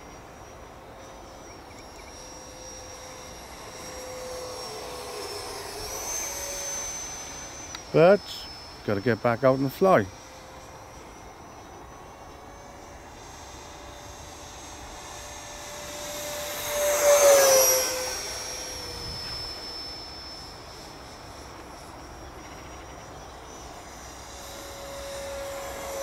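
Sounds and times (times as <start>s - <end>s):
model jet fan whining: 0.0s - 26.0s.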